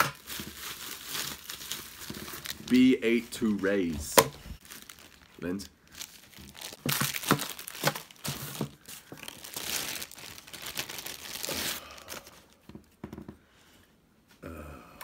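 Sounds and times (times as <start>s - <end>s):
plastic bags crinkling: 0.0s - 12.6s.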